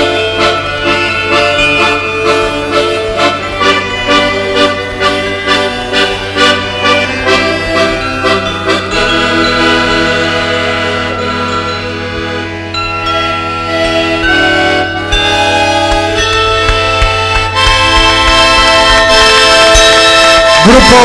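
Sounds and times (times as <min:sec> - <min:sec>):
folk ensemble with accordion: 0:00.0 - 0:21.0.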